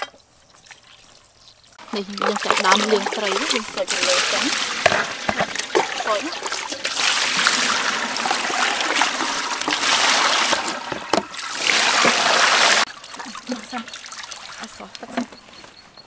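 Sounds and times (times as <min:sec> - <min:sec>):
water splashing over fish in basket: 0:01.8 - 0:15.2.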